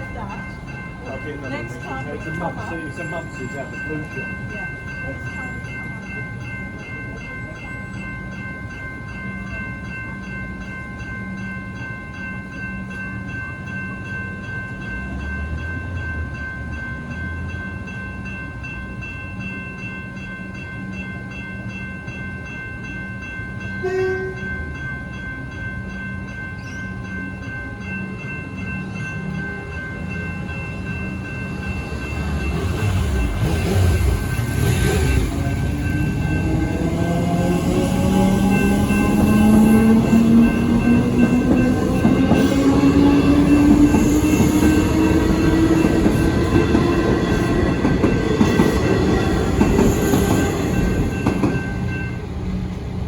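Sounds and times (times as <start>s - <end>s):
level crossing bells ringing: 0.0s - 52.6s
train rumble: 0.0s - 53.0s.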